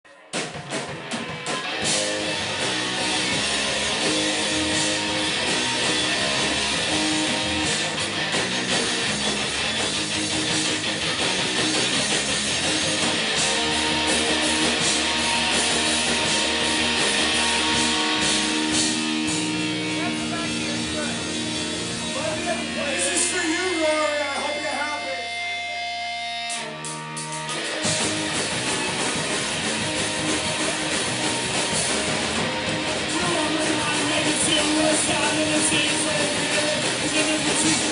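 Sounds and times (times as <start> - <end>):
punk rock band playing live: 0.2 - 37.9.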